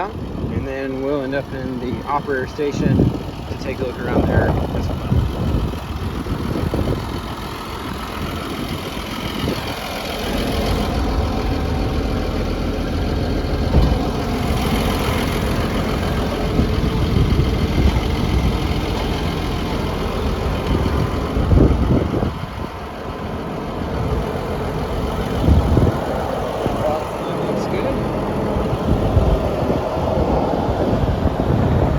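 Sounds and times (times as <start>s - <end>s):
bulldozer diesel engine idling: 0.0s - 31.9s.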